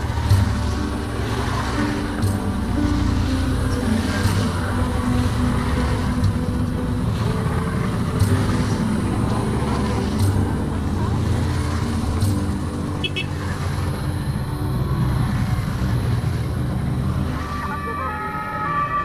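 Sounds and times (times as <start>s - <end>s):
motorcycles riding past: 0.0s - 19.0s.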